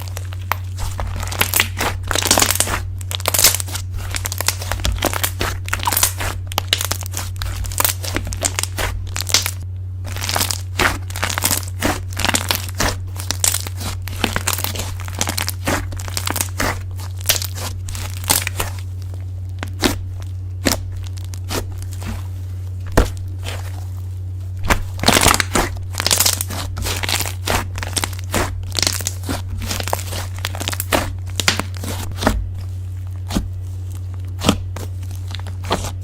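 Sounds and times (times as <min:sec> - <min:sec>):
slime squished crackling: 0:00.0 - 0:36.0
steady low hum: 0:00.0 - 0:36.0.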